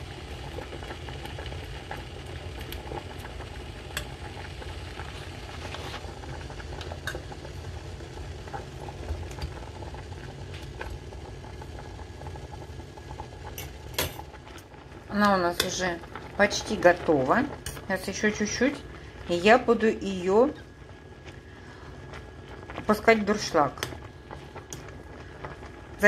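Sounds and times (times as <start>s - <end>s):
water boiling in a pot: 0.0s - 26.0s.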